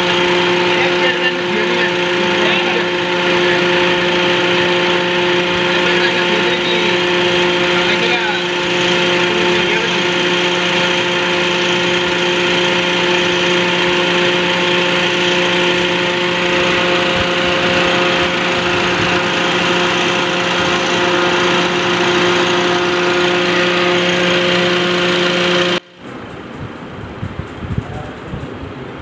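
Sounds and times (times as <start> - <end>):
car engine idling: 0.0 - 26.0
air-conditioning compressor and fan hum: 0.0 - 29.0.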